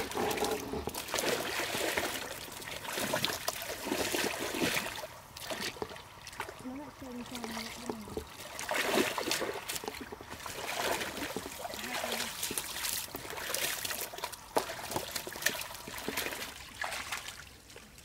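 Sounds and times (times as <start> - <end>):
pond water splashing: 0.0 - 18.0
water drips: 0.0 - 18.0.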